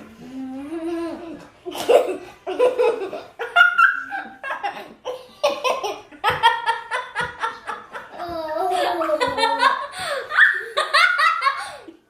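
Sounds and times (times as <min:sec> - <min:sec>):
children laughing: 0:00.1 - 0:12.0.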